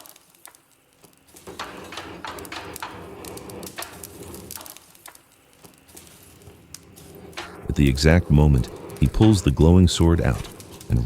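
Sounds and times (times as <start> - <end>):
charcoal fire crackling: 0.0 - 11.0.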